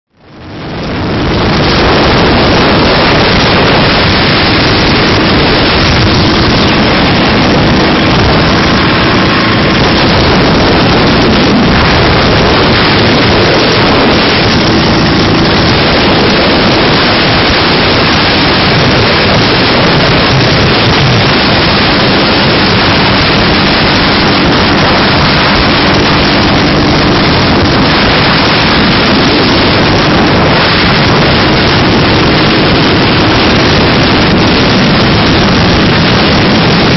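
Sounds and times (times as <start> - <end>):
motorcycle engine drone: 0.1 - 36.9
wind rush on microphone: 0.1 - 36.9.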